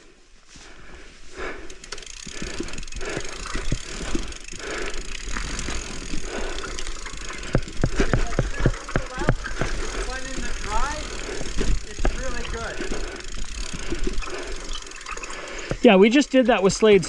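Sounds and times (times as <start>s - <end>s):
bike tyres on dirt: 0.0s - 17.0s
bike rattles and knocks: 1.7s - 16.0s.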